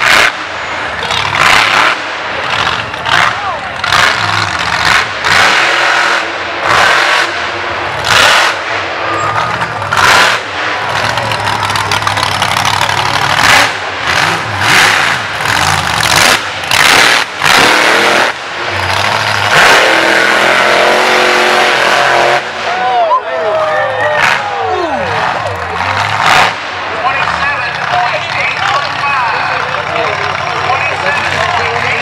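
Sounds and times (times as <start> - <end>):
truck engine revving: 0.0 - 23.0, 23.6 - 32.0.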